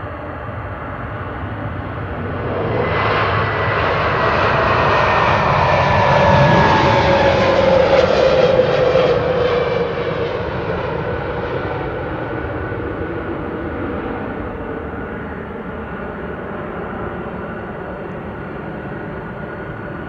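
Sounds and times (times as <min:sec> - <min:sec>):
jet engine whine: 0:00.0 - 0:20.0.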